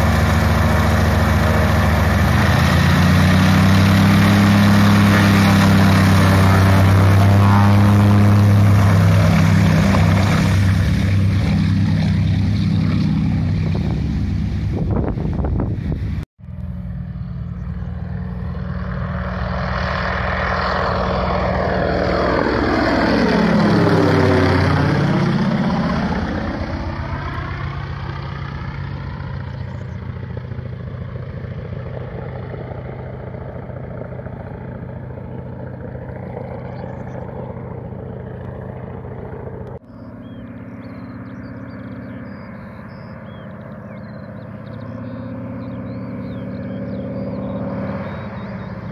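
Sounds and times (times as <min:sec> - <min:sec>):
propeller plane flying past: 0:00.0 - 0:48.9
radial aircraft engine idling: 0:00.0 - 0:48.9.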